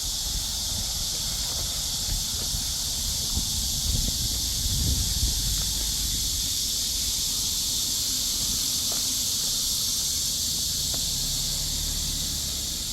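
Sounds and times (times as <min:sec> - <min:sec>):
insects chorus: 0:00.0 - 0:12.9.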